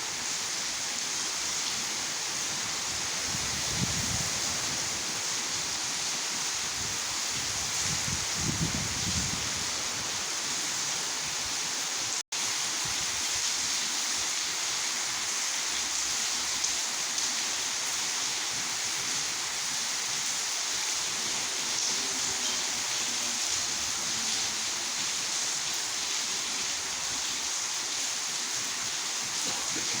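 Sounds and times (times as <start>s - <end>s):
torrential rain: 0.0s - 30.0s.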